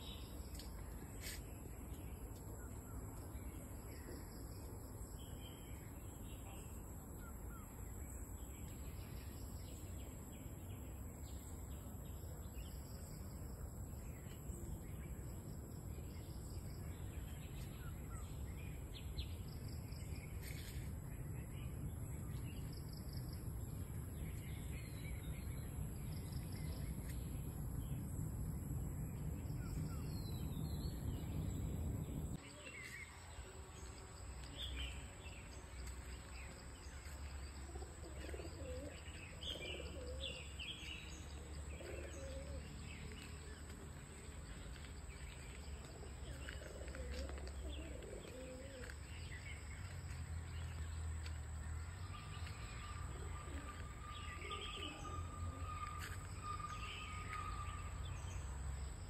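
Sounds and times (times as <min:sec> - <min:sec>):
low outdoor background noise: 0:00.0 - 0:59.0
wild birds chirping: 0:00.0 - 0:59.0.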